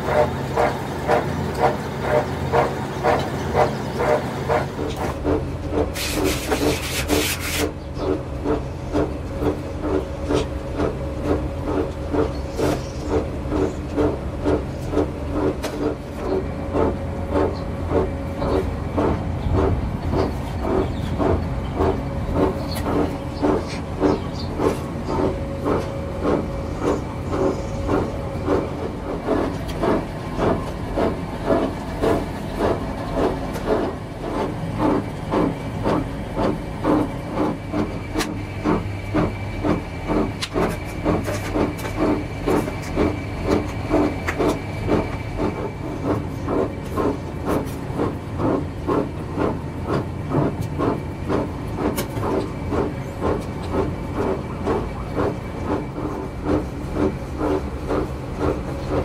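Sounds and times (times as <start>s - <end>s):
mixing mill pulsing hum: 0.0s - 59.0s.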